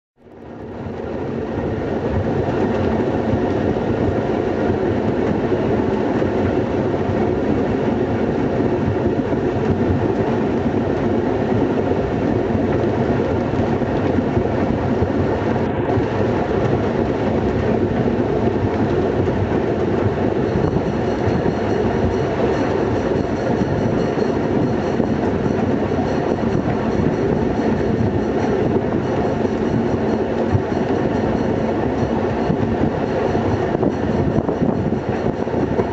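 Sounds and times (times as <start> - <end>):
diesel locomotive engine drone: 0.2 - 35.9
train wheel and rail noise: 0.2 - 35.9.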